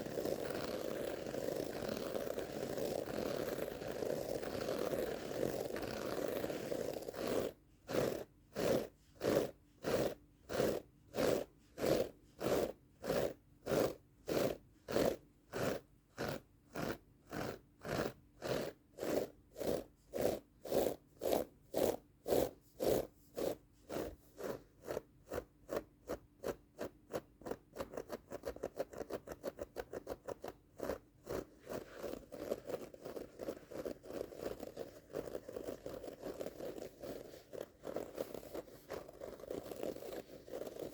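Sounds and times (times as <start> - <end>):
rug pile being scratched: 0.0 - 25.9, 27.5 - 40.9.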